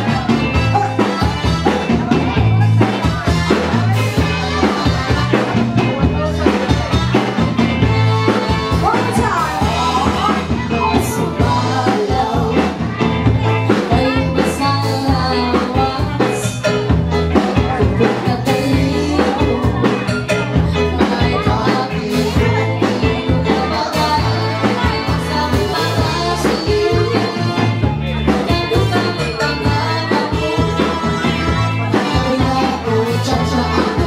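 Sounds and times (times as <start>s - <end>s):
live band dance music: 0.0s - 34.0s
person singing: 0.0s - 34.0s.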